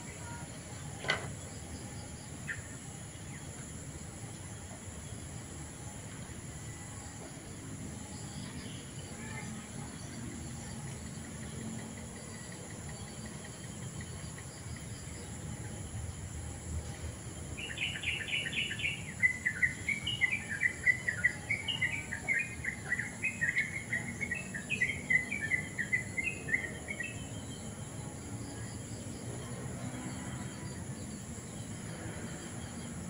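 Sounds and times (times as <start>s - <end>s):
high insect drone: 0.0s - 33.0s
songbird chirping: 0.0s - 33.0s.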